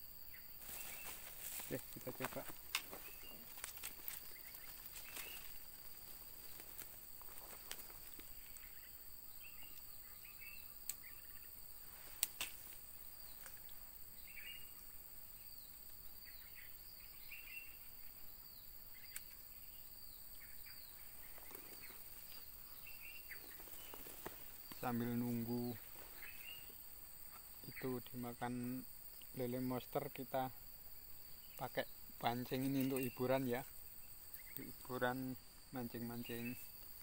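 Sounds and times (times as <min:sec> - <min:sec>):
bird chirps: 0:00.0 - 0:03.5, 0:04.1 - 0:05.7, 0:08.2 - 0:11.6, 0:13.0 - 0:28.8, 0:31.1 - 0:36.7
high-pitched insect drone: 0:00.0 - 0:37.0.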